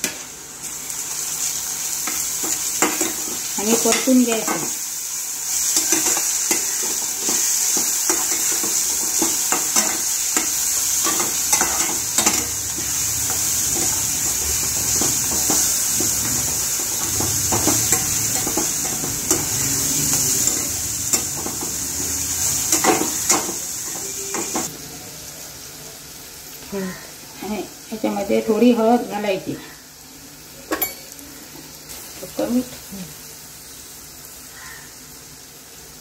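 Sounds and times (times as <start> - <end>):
paste sizzling in oil: 0.0 - 36.0.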